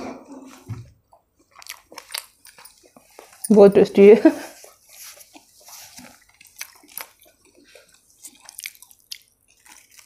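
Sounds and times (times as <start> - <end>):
person chewing flatbread: 0.2 - 3.5, 4.6 - 10.0.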